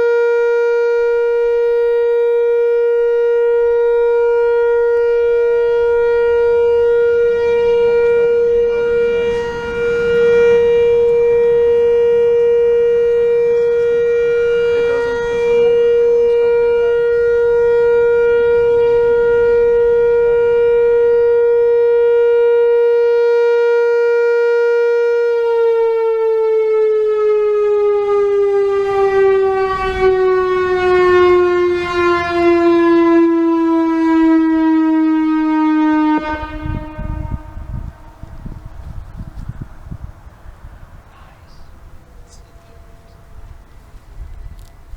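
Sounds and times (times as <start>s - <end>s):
electronic warning siren: 0.0s - 44.9s.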